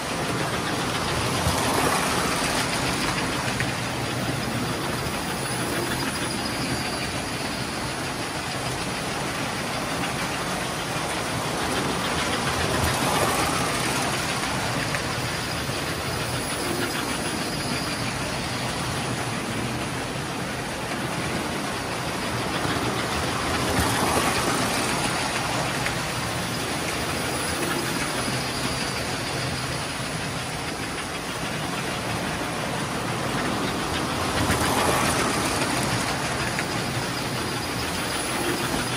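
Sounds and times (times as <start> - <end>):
toy trains rolling rumble: 0.0 - 38.9.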